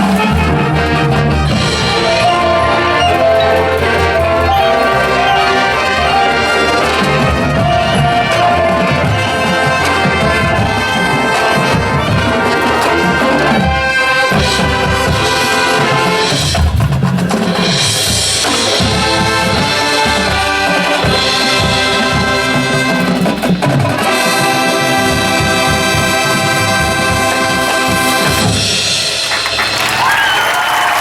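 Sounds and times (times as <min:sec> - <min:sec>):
brass: 0:00.0 - 0:29.9
drums: 0:00.0 - 0:31.0.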